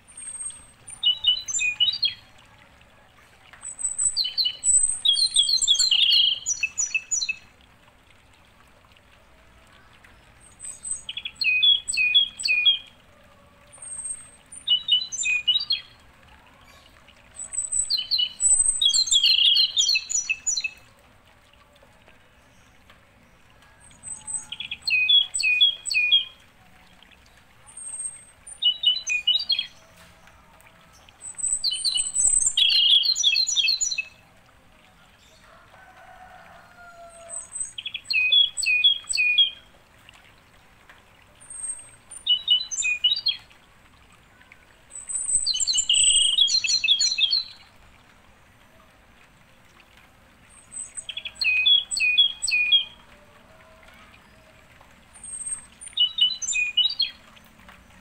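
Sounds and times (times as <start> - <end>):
songbird singing: 0.0 - 7.6, 9.7 - 20.9, 22.0 - 34.2, 34.9 - 40.2, 41.3 - 43.6, 44.4 - 47.8, 50.4 - 58.0.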